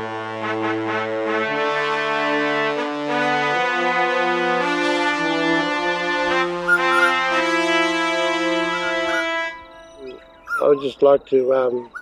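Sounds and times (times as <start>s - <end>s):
music of slow held chords: 0.0s - 12.0s.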